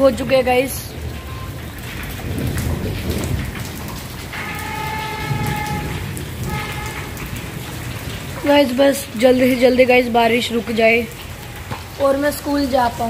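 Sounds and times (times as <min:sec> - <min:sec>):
rain on concrete: 0:00.0 - 0:13.0.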